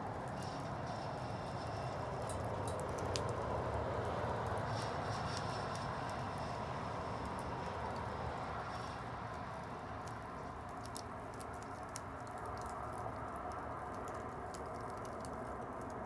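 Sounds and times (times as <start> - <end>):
bonfire flames crackling: 0.0 - 16.0.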